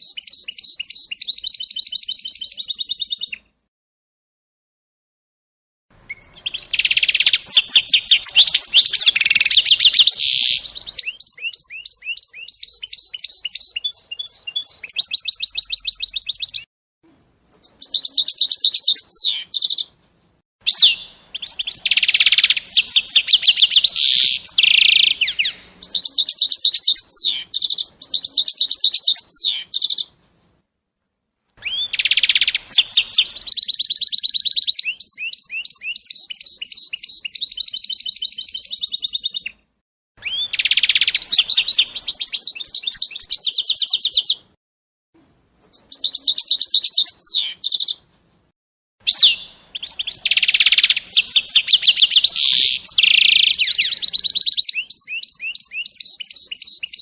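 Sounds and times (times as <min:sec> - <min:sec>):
songbird singing trills: 0:00.0 - 0:03.4, 0:06.1 - 0:16.7, 0:17.5 - 0:19.9, 0:20.7 - 0:30.1, 0:31.6 - 0:39.6, 0:40.2 - 0:44.4, 0:45.6 - 0:48.0, 0:49.1 - 0:57.0.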